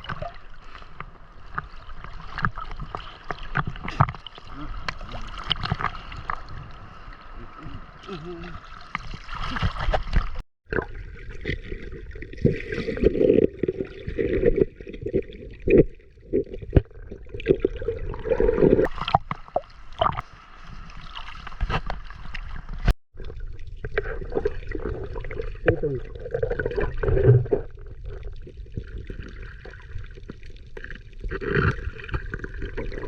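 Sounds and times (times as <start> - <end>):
water sloshing and gurgling: 0.0 - 33.0
water splashes: 0.0 - 33.0.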